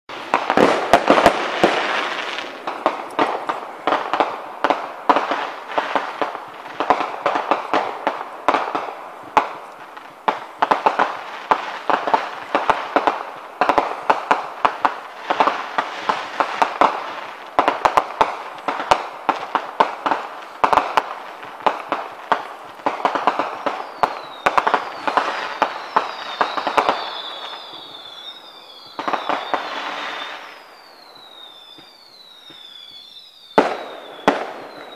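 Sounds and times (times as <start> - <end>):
fireworks bangs and crackles: 0.1 - 34.9
fireworks whistles gliding down: 0.1 - 34.9.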